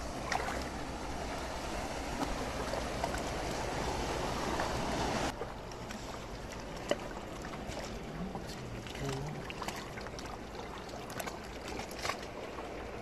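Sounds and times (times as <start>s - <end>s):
seawater lapping among rocks: 0.0s - 13.0s.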